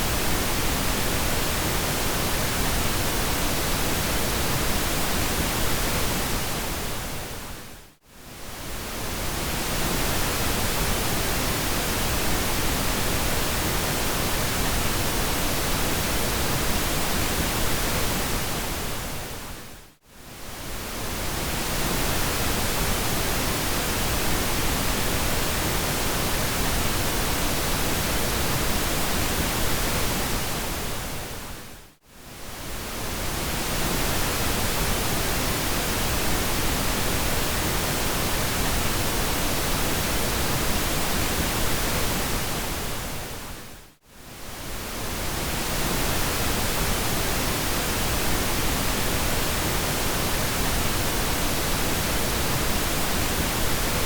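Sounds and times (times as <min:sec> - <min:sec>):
steady pink noise hiss: 0:00.0 - 0:54.0.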